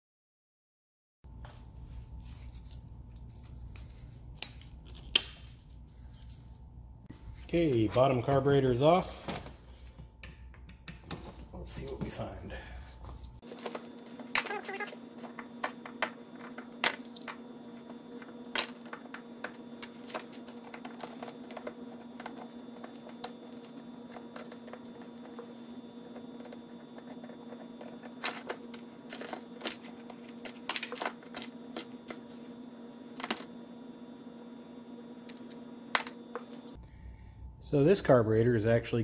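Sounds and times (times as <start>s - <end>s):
low hum: 1.3s - 39.0s.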